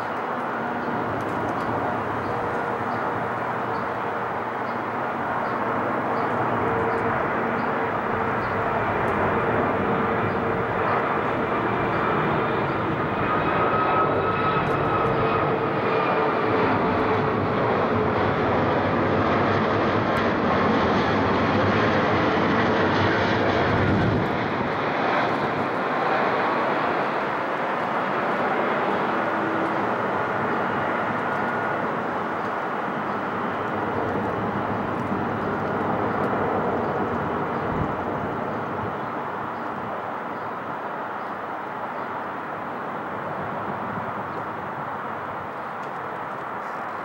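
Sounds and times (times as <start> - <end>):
jet airliner passing low overhead: 0.0 - 47.0
jet engines rushing and whining: 0.0 - 47.0.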